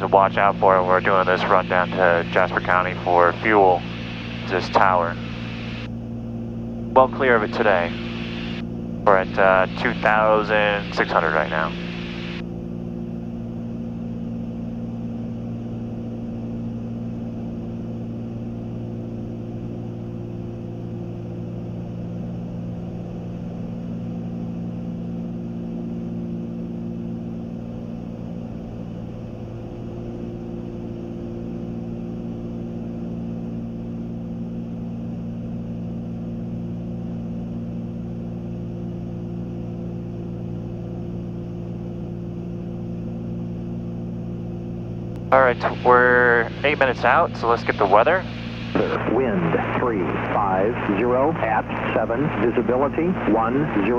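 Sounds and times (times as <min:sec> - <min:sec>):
propeller plane engines droning: 0:00.0 - 0:53.9.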